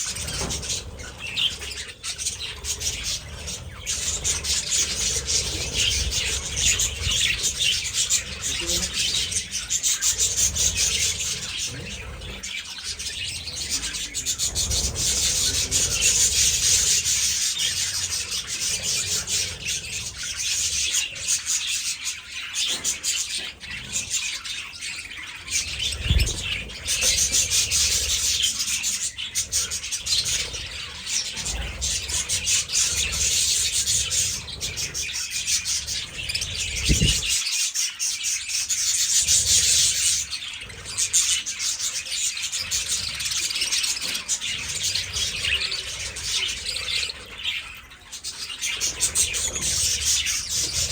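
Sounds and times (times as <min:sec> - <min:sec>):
budgerigars chattering: 0:00.0 - 0:50.9.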